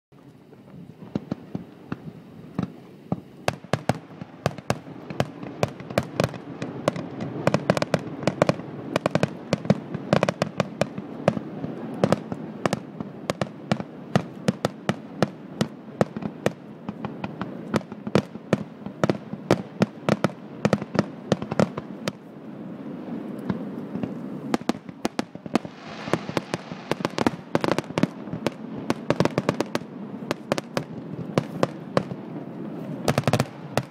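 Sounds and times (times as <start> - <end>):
fireworks bangs: 0.2 - 33.9
fireworks crackling: 0.2 - 33.9.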